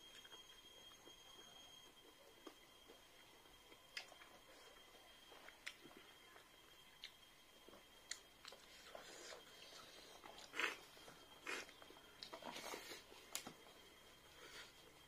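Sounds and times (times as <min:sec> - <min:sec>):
wet chewing and mouth noises: 0:00.0 - 0:13.7.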